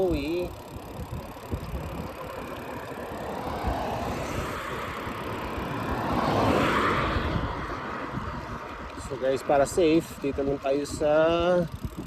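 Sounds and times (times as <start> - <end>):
bicycle road noise: 0.0 - 12.0
wind buffeting microphone: 0.0 - 12.0.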